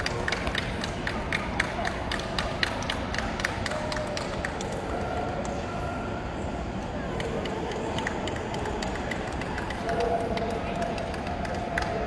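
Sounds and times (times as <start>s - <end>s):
indoor hall background noise: 0.0s - 12.0s.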